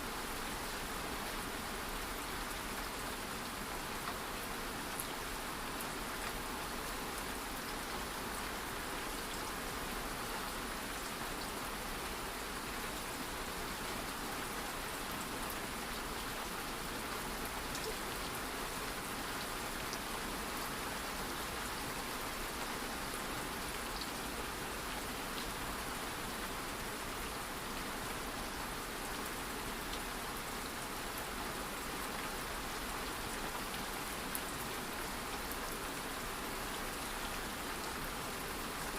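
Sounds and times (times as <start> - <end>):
light rain hiss: 0.0 - 38.9.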